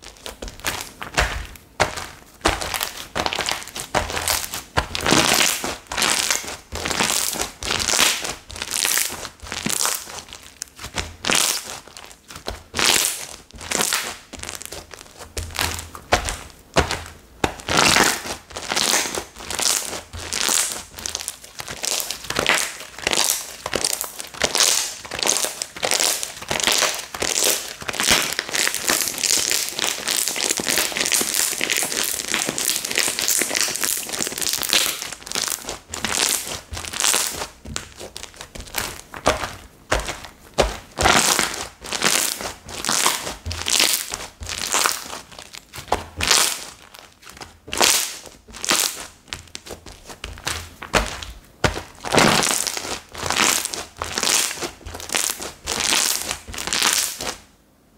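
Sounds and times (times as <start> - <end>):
slime squishing and crackling: 0.0 - 57.4.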